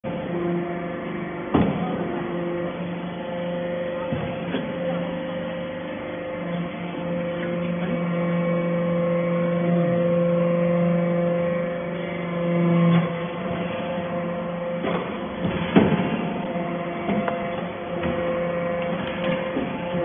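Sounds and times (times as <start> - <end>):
hydraulic press humming: 0.0 - 20.0.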